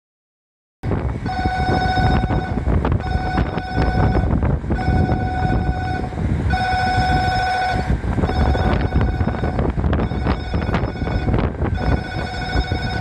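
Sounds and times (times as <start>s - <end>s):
wind buffeting microphone: 0.8s - 13.0s
electronic departure bell trilling: 1.3s - 13.0s.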